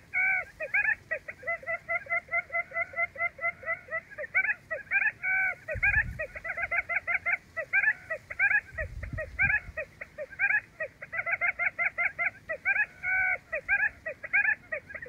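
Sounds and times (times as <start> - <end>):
quail calling: 0.0 - 15.0.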